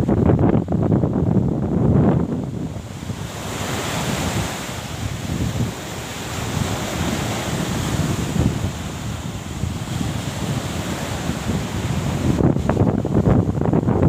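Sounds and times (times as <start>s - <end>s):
sea surf rushing: 0.0s - 14.0s
wind buffeting microphone: 0.0s - 14.0s.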